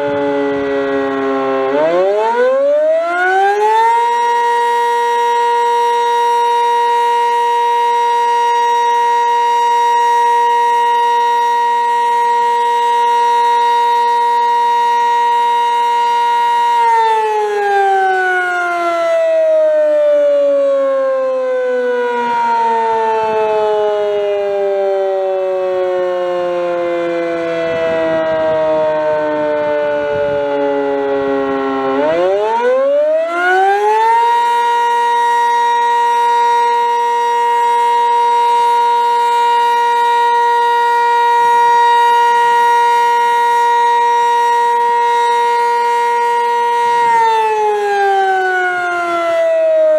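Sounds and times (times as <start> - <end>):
warning siren winding: 0.0 - 49.9.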